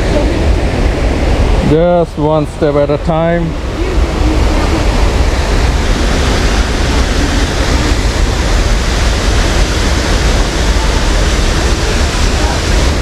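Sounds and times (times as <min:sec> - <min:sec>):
deep rumble: 0:00.0 - 0:13.0
whitewater rushing: 0:00.0 - 0:13.0.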